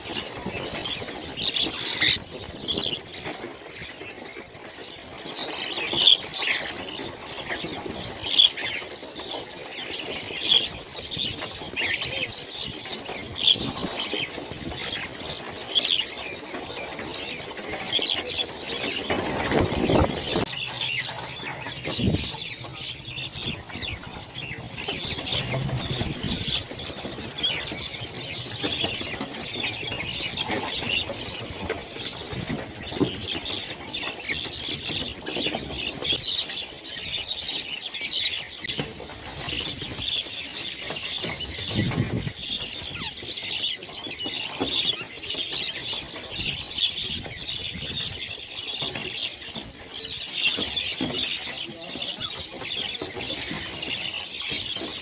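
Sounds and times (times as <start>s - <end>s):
flock of birds chirping: 0.0s - 55.0s.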